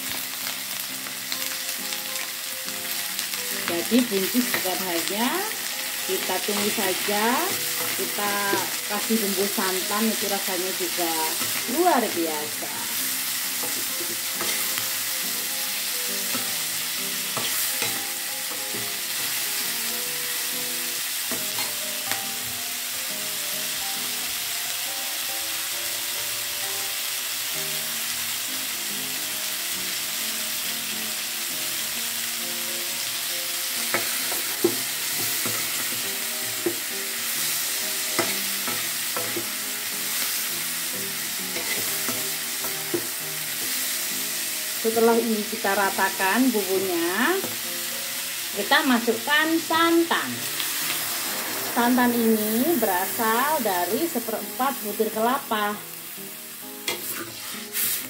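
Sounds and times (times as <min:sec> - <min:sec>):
food sizzling in pan: 0:00.0 - 0:58.0.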